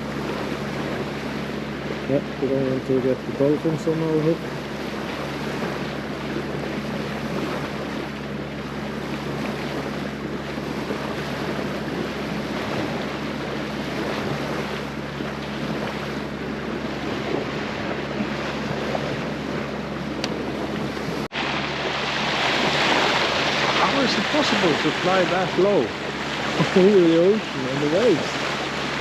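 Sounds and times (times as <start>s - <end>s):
sea waves washing: 0.0s - 29.0s
wind buffeting microphone: 0.0s - 29.0s.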